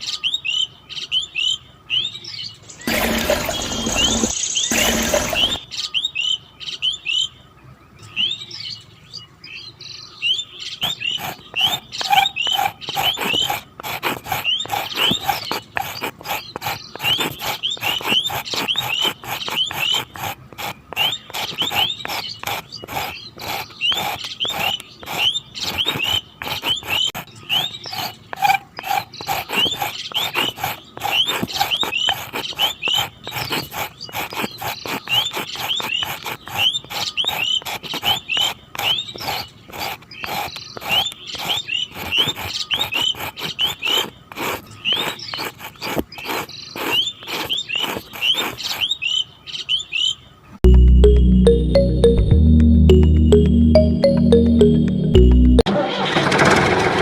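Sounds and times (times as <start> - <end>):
birds chirping: 0.0 - 52.3.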